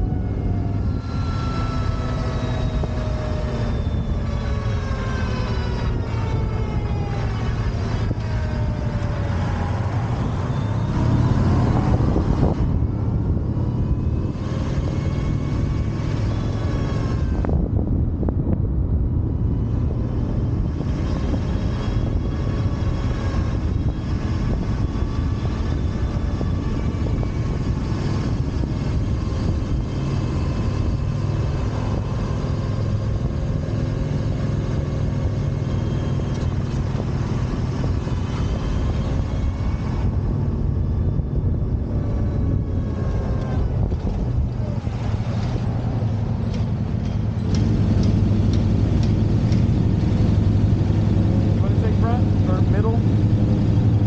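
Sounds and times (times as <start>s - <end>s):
faint whining tones: 0.0s - 52.2s
motorcycle road rumble: 0.0s - 54.0s
wind: 0.0s - 54.0s.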